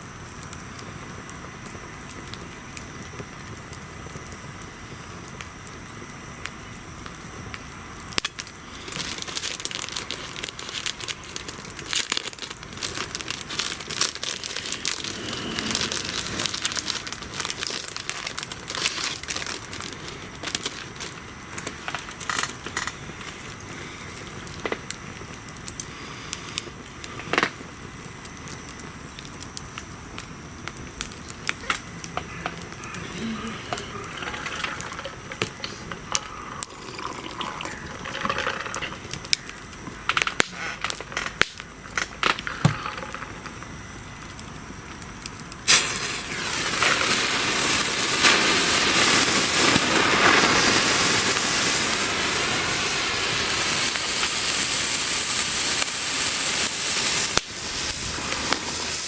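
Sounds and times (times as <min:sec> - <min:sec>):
bonfire crackling and popping: 0:00.0 - 0:59.0.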